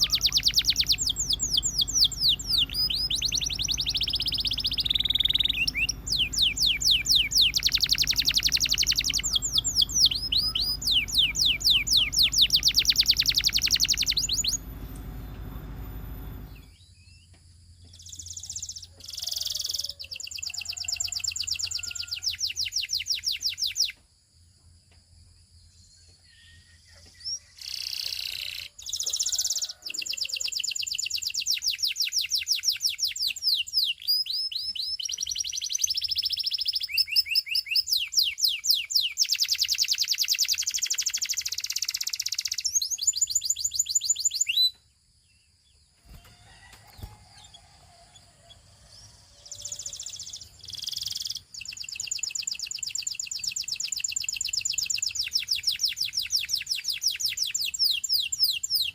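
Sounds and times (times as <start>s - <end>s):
canary singing trills: 0.0s - 17.0s, 26.2s - 44.8s, 46.0s - 58.9s.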